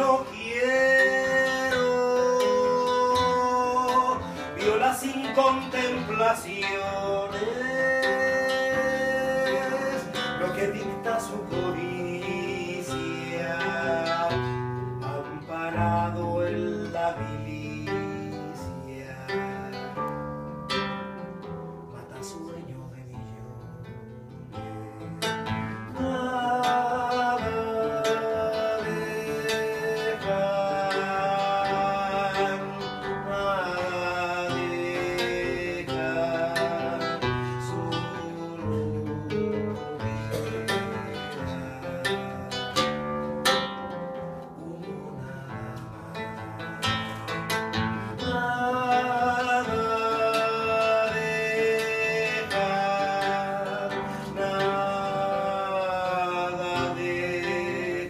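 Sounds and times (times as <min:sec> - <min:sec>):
acoustic guitar strummed and picked: 0:00.0 - 0:58.0.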